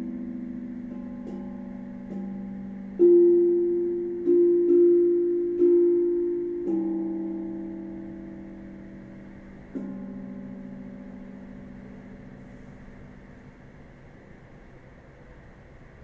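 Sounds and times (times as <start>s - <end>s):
steel tongue drum melody: 0.0s - 14.8s.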